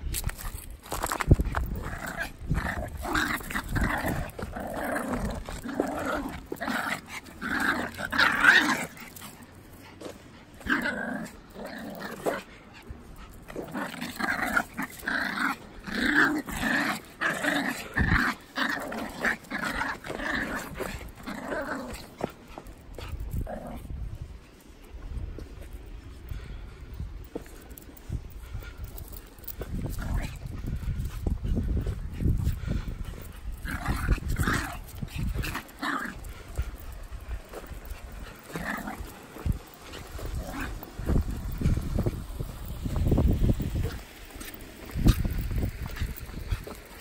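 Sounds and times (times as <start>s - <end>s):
small dogs growling: 1.0s - 24.3s, 25.4s - 47.0s.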